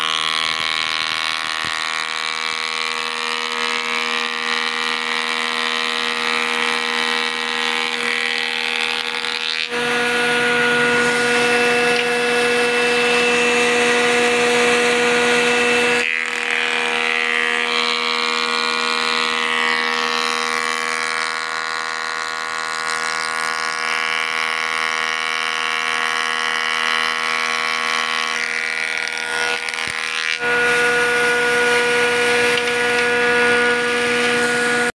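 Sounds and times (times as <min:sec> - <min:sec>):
woodworking machine motor whine: 0:00.0 - 0:34.9.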